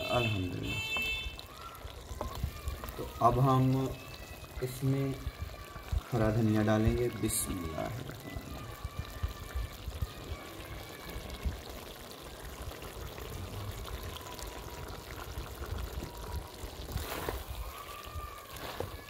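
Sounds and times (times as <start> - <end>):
curry simmering in a pot: 0.0 - 19.0.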